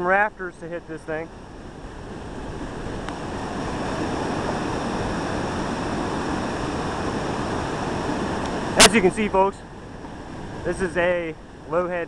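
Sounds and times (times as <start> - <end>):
water rushing over a dam: 1.5 - 11.7.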